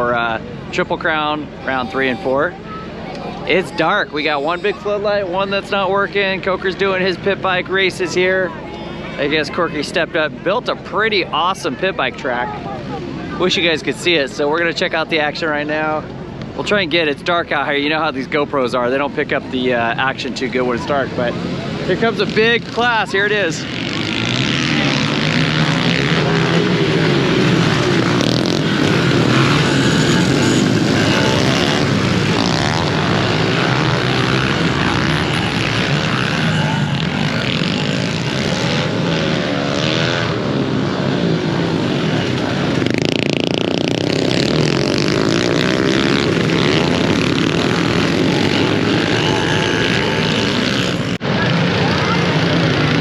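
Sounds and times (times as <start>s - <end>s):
pit bike engines revving: 0.0s - 53.0s.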